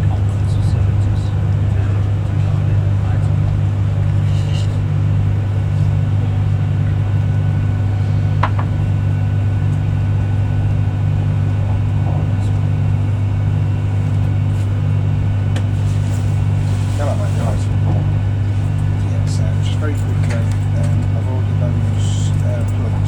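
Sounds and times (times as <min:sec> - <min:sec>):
train carriage hum and rumble: 0:00.0 - 0:23.0.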